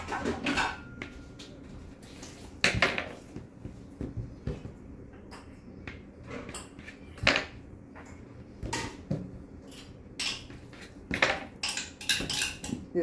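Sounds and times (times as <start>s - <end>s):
dishes and utensils clinking: 0.0s - 3.2s, 5.2s - 13.0s.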